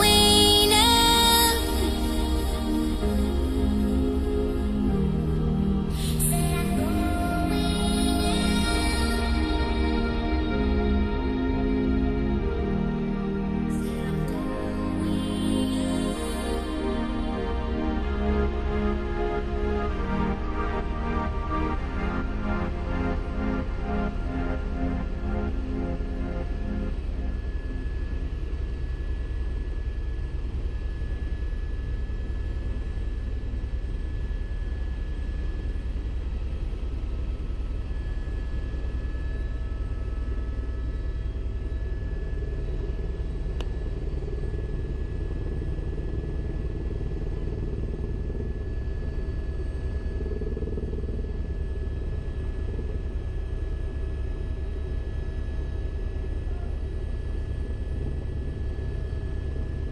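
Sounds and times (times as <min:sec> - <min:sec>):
faint whining tones: 0:00.0 - 0:59.9.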